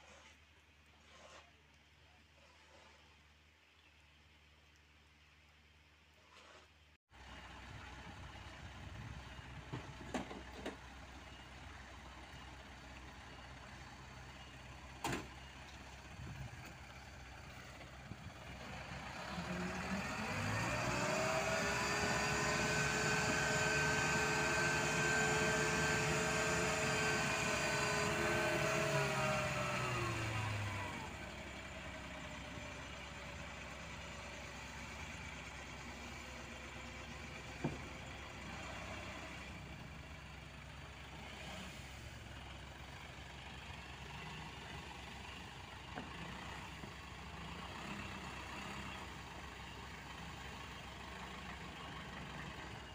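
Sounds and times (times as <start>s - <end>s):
truck engine revving and idling: 7.2s - 52.9s.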